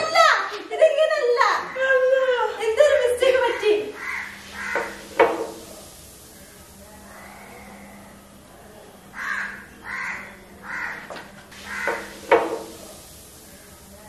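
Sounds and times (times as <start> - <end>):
bird calling coarsely: 1.6 - 14.0.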